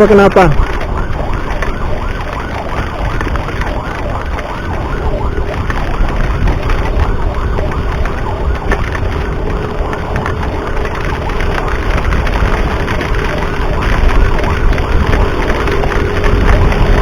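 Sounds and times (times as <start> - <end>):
ambulance siren yelping: 0.0 - 17.0
heavy wind noise: 0.0 - 17.0
road rumble: 0.0 - 17.0.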